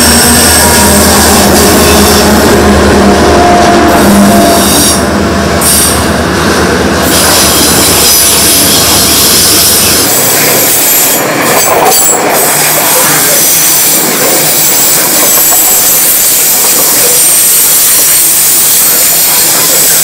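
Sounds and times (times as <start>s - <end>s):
train wheels rolling over rails: 3.4s - 20.0s.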